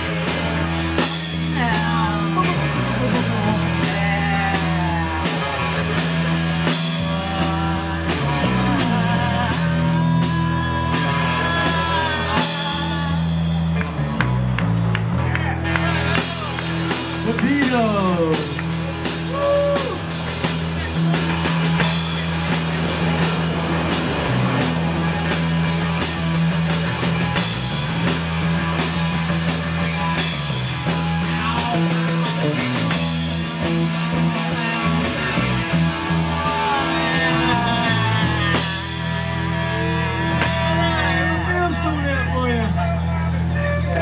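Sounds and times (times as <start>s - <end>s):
drum kit: 0.0s - 42.4s
bass guitar: 0.0s - 44.0s
electric guitar: 0.0s - 44.0s.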